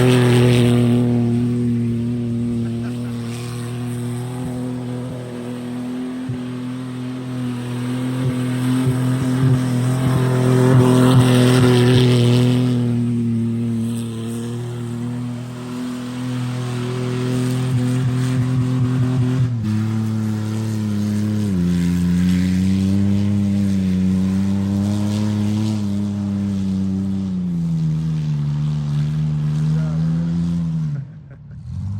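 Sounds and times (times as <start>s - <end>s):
car engine at high revs: 0.0s - 31.9s.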